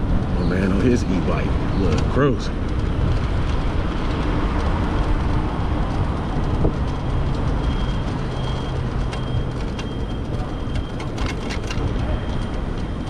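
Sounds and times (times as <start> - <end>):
wind rush: 0.0 - 10.9
city traffic noise: 0.0 - 13.0
low vehicle hum: 0.0 - 13.0.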